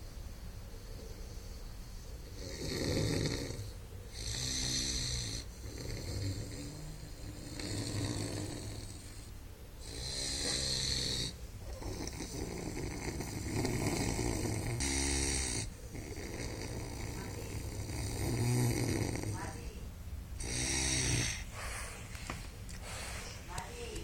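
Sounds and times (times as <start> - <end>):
dog snoring: 0.8 - 19.6, 20.4 - 22.0.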